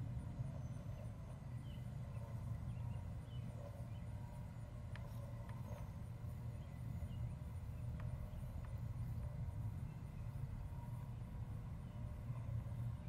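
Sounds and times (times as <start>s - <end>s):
distant lawn mower engines: 0.0s - 13.0s.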